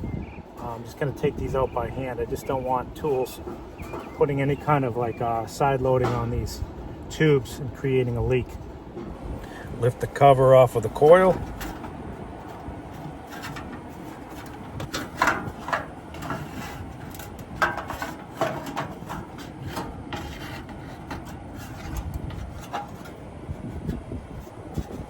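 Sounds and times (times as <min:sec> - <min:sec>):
low rumble of wind: 0:00.0 - 0:25.0
metal cover scraping and knocking: 0:01.3 - 0:07.6, 0:08.4 - 0:25.0.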